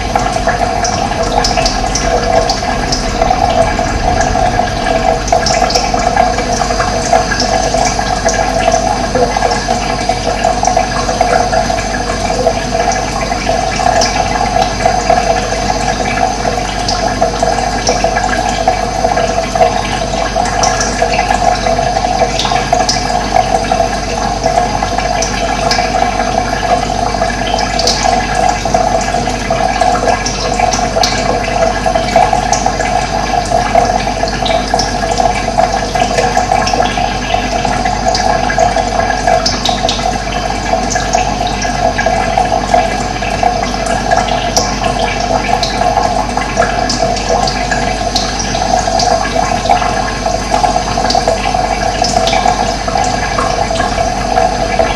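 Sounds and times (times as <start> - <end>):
water rushing: 0.0 - 27.4, 28.2 - 54.9.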